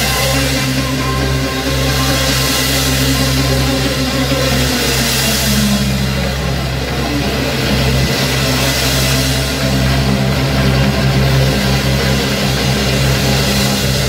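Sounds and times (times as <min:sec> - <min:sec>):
bass guitar: 0:00.0 - 0:14.0
blues-rock band playing: 0:00.0 - 0:14.0
electric guitar: 0:00.0 - 0:14.0.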